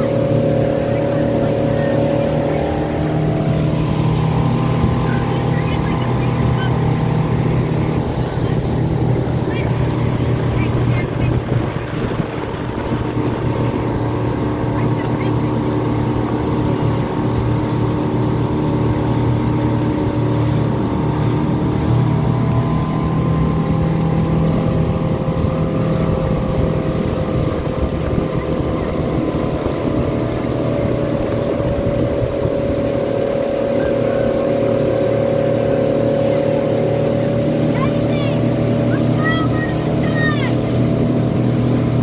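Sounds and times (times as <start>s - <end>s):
motorboat engine running: 0.0s - 42.0s
water rushing: 0.0s - 42.0s.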